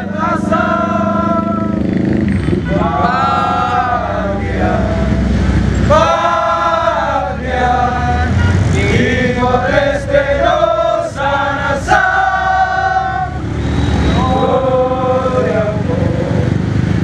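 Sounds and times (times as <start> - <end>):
men chanting a slogan: 0.0 - 1.8, 2.6 - 16.6
road traffic: 0.0 - 17.0.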